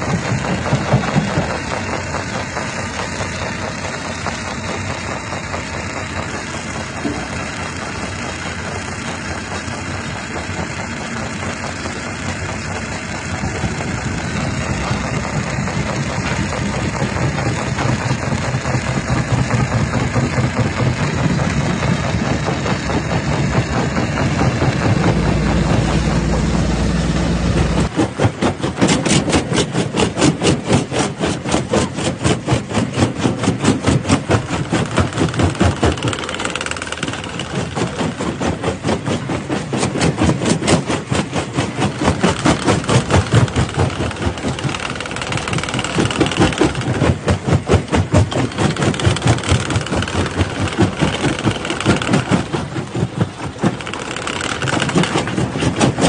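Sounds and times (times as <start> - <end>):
rapid even pounding: 0.0 - 56.0
rock crusher machinery running: 0.0 - 56.0.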